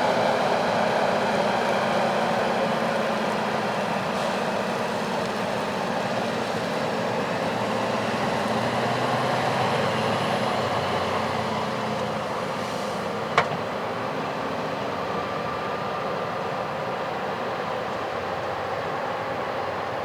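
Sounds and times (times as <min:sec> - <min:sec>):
farm machinery engine hum: 0:00.0 - 0:20.0.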